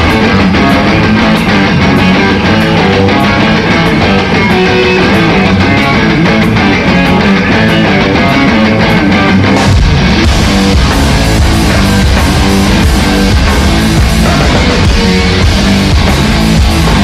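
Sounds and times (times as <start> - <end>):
bass guitar: 0.0 - 17.0
drum beat: 0.0 - 17.0
electric guitar: 0.0 - 17.0.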